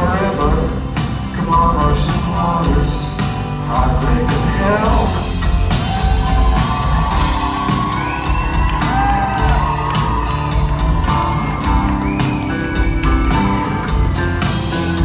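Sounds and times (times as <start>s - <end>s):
drum kit beat: 0.0s - 15.0s
live rock band playing: 0.0s - 15.0s.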